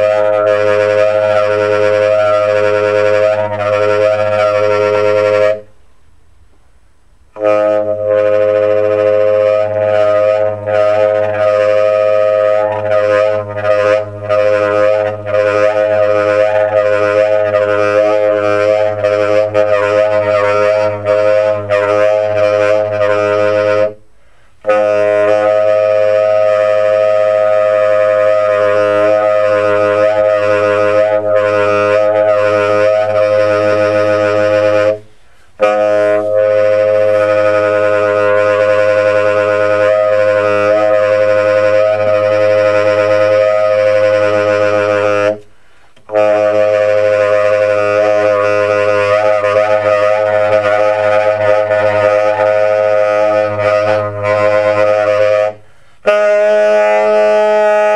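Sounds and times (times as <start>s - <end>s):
tenor saxophone sustained tones: 0.0s - 5.8s, 7.3s - 57.9s.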